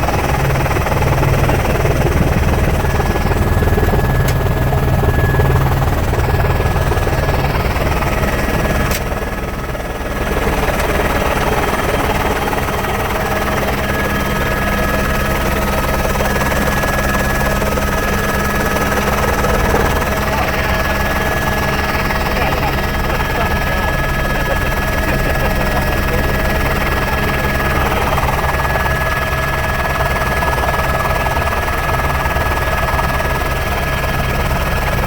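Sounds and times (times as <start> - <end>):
helicopter engine and rotor: 0.0 - 35.0.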